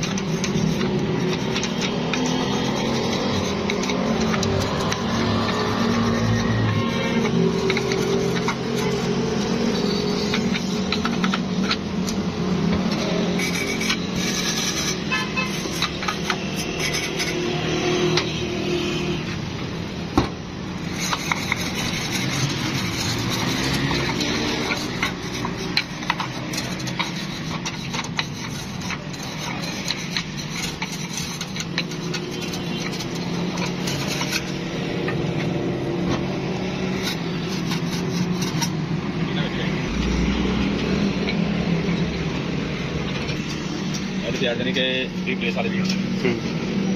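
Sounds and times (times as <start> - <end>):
wire brush scrubbing metal: 0.0 - 19.3, 20.6 - 39.4.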